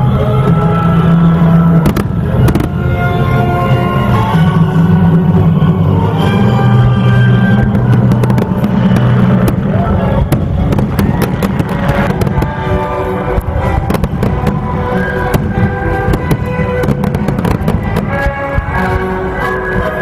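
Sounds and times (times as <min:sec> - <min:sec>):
music playing: 0:00.0 - 0:20.0
fireworks bursting: 0:01.2 - 0:20.0.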